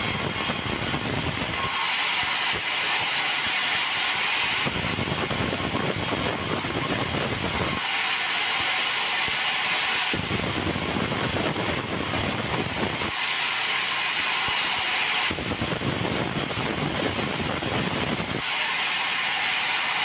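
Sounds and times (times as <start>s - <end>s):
bandsaw running: 0.0s - 20.0s.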